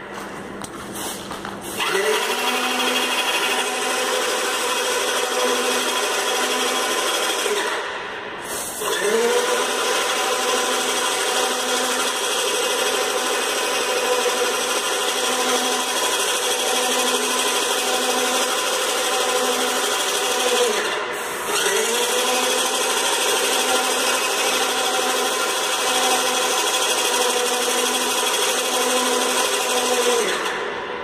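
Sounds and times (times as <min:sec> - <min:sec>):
paint sprayer pump motor humming: 0:01.8 - 0:07.8, 0:08.7 - 0:30.8.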